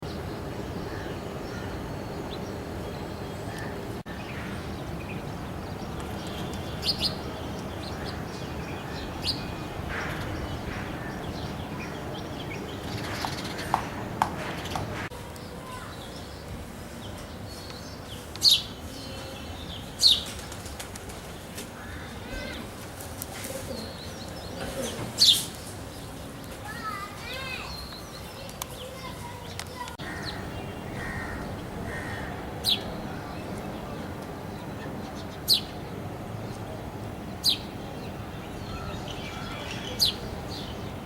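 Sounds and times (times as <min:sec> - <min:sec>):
low background hum: 0:00.0 - 0:16.0, 0:16.6 - 0:41.0
sparrows chirping: 0:00.0 - 0:20.6, 0:23.5 - 0:41.0.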